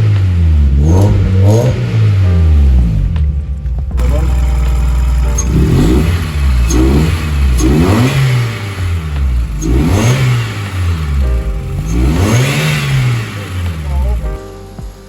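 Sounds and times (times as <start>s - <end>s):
car engine revving in blips: 0.0s - 14.9s.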